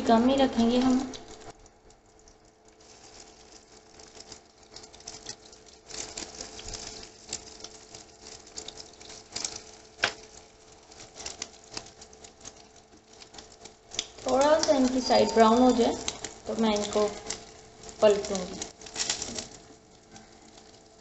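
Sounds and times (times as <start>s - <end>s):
faint steady hum: 0.0s - 21.0s
cutlets sizzling in a pan: 2.2s - 21.0s.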